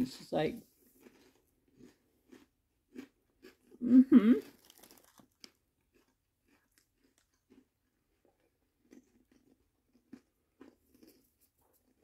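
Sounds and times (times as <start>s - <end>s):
person chewing crunchy chips: 0.8s - 12.0s.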